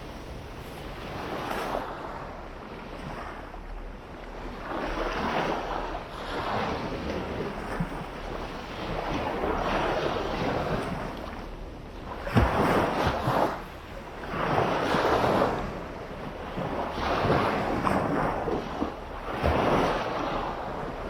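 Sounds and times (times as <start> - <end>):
sea waves breaking on beach: 0.0 - 3.4, 4.4 - 11.5, 12.1 - 21.0.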